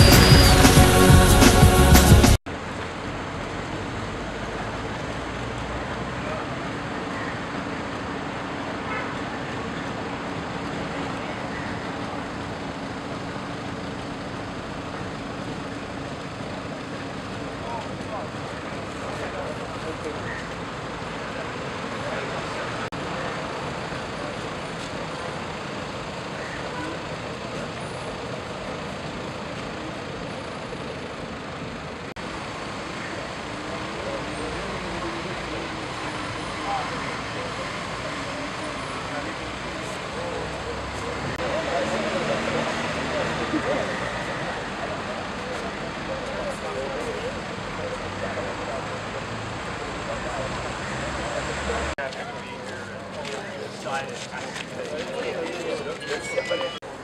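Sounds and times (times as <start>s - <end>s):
steady background noise: 2.5s - 57.0s.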